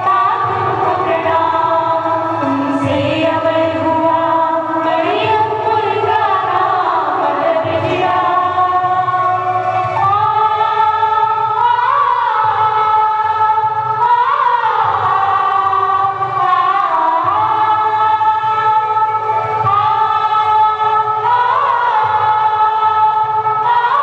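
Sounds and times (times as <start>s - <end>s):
choir singing long notes: 0.0s - 24.0s.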